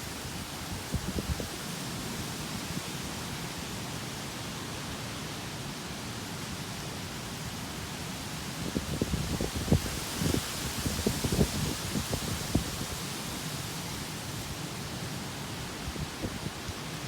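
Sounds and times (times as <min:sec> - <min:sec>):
typhoon wind and rain: 0:00.0 - 0:17.0.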